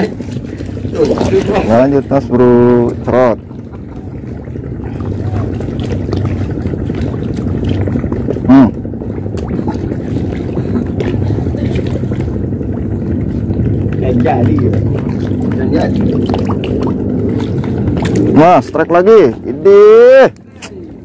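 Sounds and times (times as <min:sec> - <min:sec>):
waves lapping against sea wall: 0:00.0 - 0:21.0
wind rumbling on microphone: 0:00.0 - 0:21.0.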